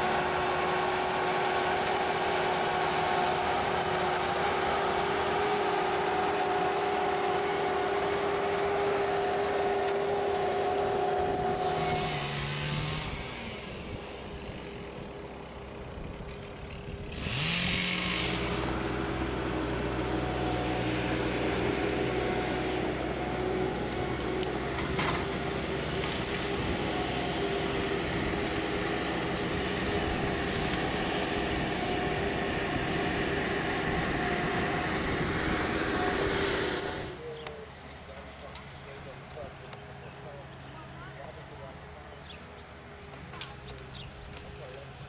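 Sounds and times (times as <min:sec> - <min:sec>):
steady motor hum: 0:00.0 - 0:45.0.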